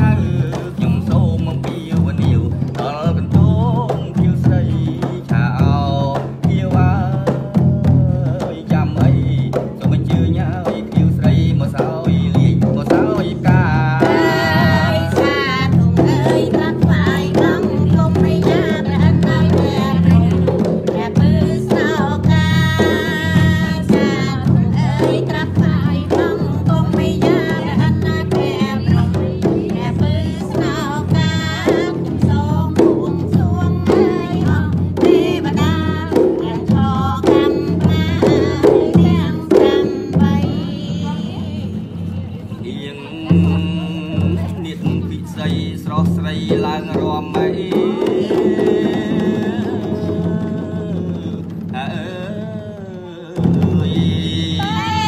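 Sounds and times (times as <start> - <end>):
background music with drum beat: 0.0 - 55.0.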